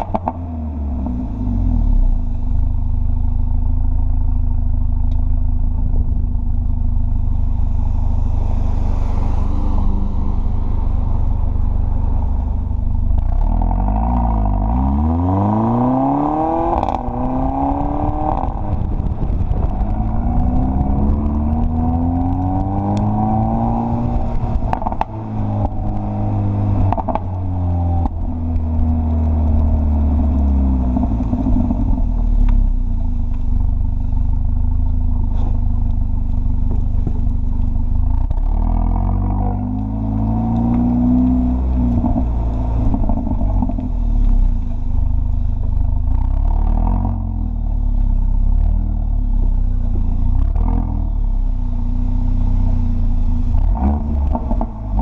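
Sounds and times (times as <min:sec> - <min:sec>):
car engine revving: 0:00.0 - 0:04.2, 0:05.0 - 0:55.0
exhaust pops and crackles: 0:00.0 - 0:07.9, 0:12.4 - 0:55.0.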